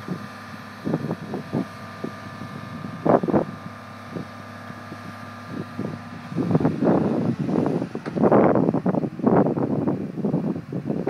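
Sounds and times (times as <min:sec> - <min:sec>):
crane engine humming: 0:00.0 - 0:11.0
wind buffeting microphone: 0:00.0 - 0:11.0.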